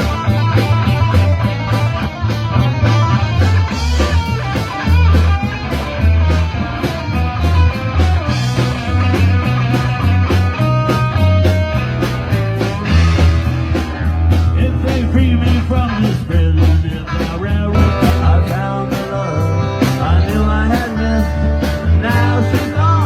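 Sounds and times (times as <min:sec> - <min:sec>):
bass guitar: 0:00.0 - 0:23.0
drum kit: 0:00.0 - 0:23.0
electric guitar: 0:00.0 - 0:23.0.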